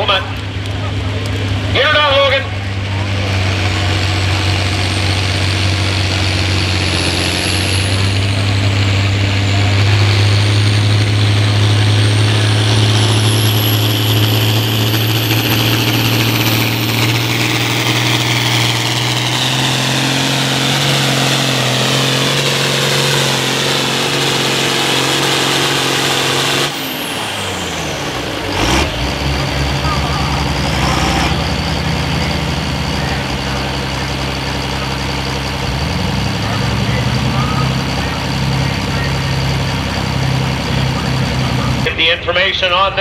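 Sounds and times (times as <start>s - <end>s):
high whine: 0.0s - 43.0s
tractor diesel engine droning: 0.0s - 43.0s.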